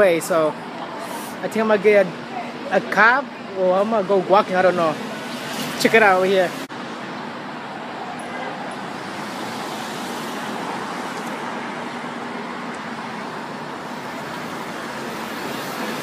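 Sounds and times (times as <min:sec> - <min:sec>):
passing cars: 0:00.0 - 0:16.0.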